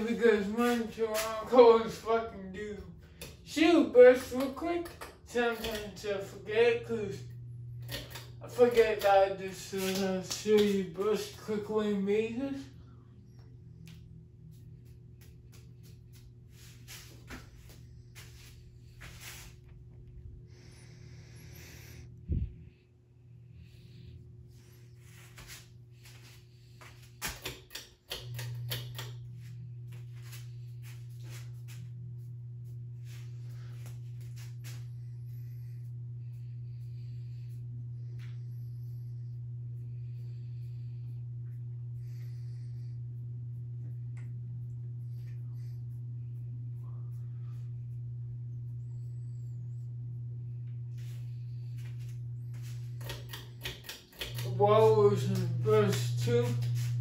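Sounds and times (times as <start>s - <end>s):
ceiling fan motor humming: 0.0s - 57.0s.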